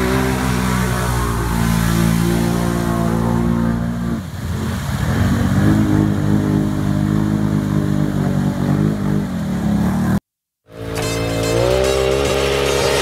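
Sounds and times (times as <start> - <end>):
atv engine revving: 0.0 - 13.0
tires churning through mud: 0.0 - 13.0.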